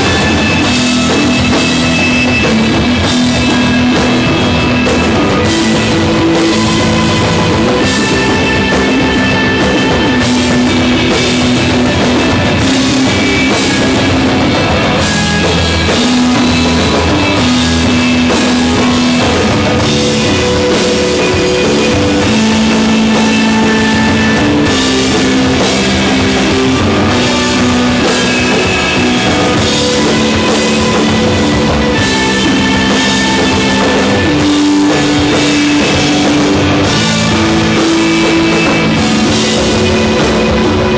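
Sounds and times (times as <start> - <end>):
bass guitar: 0.0 - 40.9
drum and cymbal hits: 0.0 - 40.9
electric guitar: 0.0 - 40.9
rock band playing live: 0.0 - 40.9.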